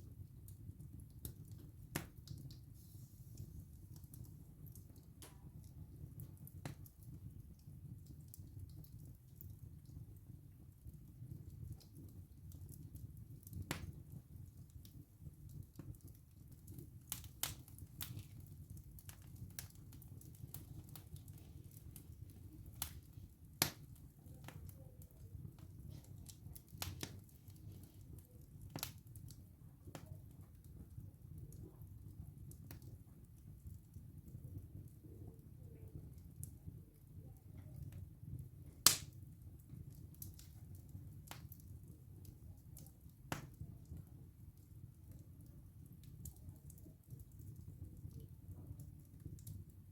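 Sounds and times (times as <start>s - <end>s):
burning wood cracking and popping: 0.0s - 49.9s
flames rumbling: 0.0s - 49.9s.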